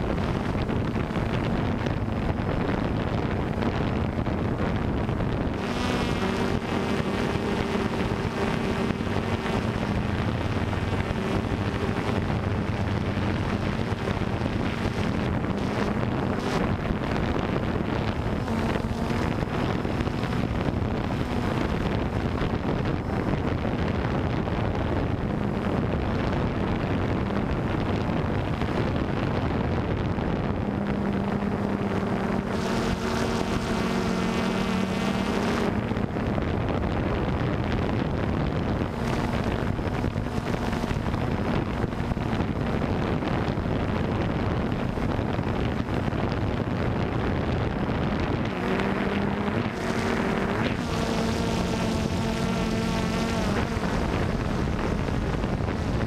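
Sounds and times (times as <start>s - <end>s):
drone propellers buzzing: 0.0s - 56.0s
wind rushing over microphone: 0.0s - 56.0s.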